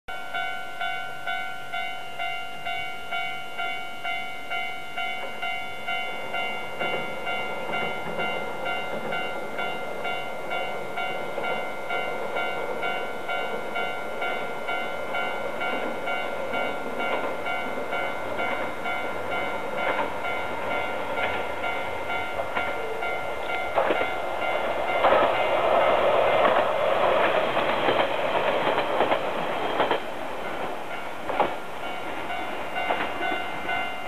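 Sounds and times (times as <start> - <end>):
diesel train engine and wheels: 0.1 - 34.0
level-crossing alarm dinging: 0.1 - 34.0.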